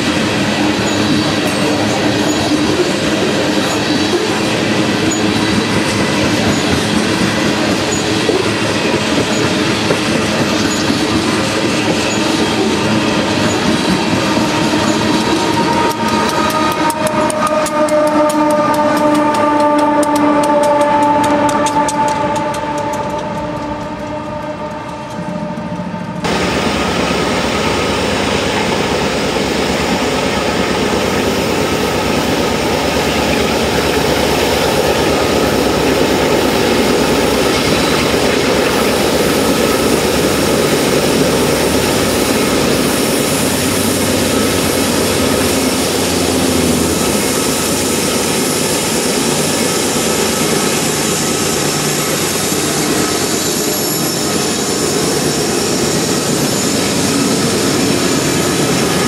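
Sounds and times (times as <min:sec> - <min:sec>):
diesel locomotive engines under load: 0:00.0 - 0:59.0.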